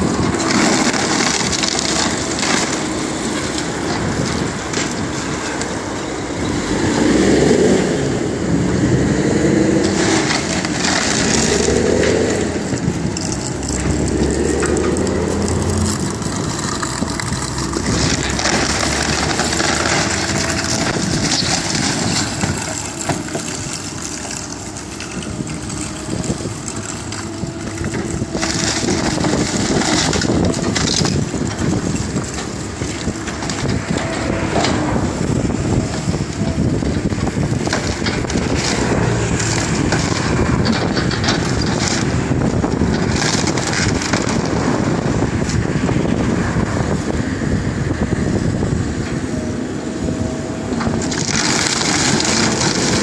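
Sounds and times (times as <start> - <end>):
building crashing and crunching: 0.0 - 7.7, 9.5 - 46.4, 50.7 - 53.0
diesel engine running: 0.0 - 53.0.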